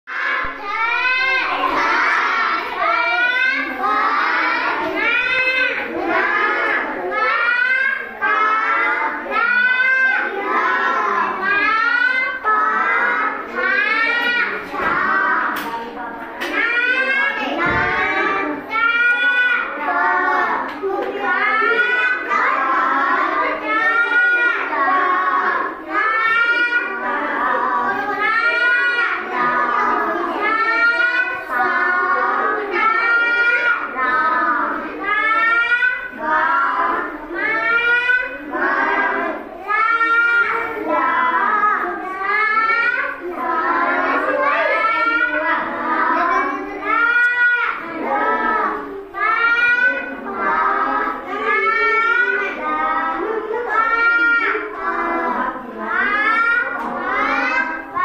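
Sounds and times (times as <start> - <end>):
child reading aloud sing-song: 0.1 - 58.0.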